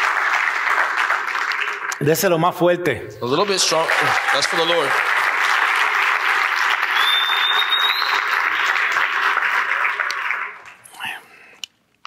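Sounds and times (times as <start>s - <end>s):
congregation applauding: 0.0s - 2.6s, 3.2s - 11.4s.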